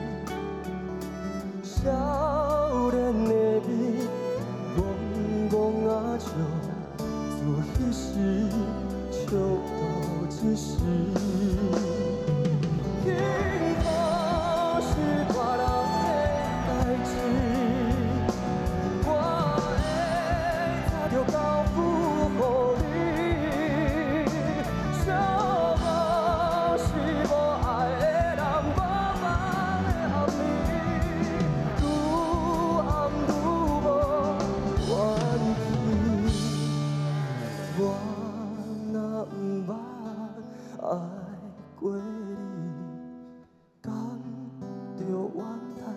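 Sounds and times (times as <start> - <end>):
live band playing: 0.0 - 39.2
man singing with vibrato: 1.6 - 43.2, 43.8 - 45.9.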